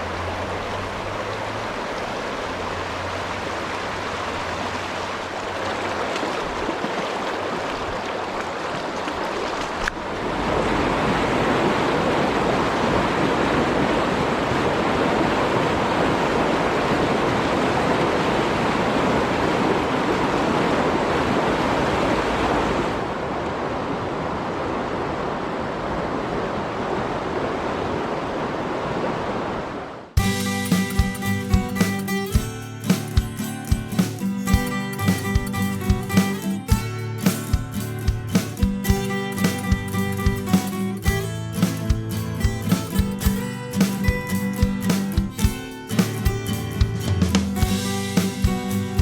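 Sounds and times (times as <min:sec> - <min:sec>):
rushing mountain stream: 0:00.0 - 0:49.0.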